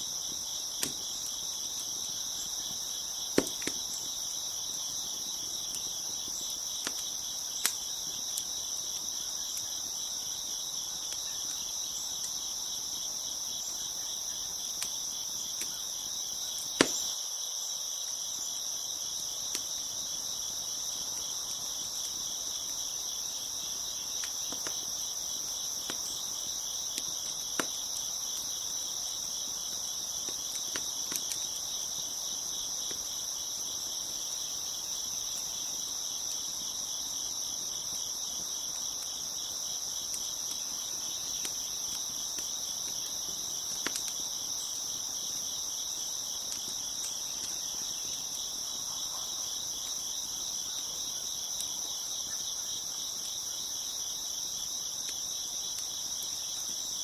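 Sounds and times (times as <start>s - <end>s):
crickets chirping: 0.0s - 57.0s
wood fire popping: 0.1s - 13.8s, 14.4s - 17.2s, 19.0s - 48.7s.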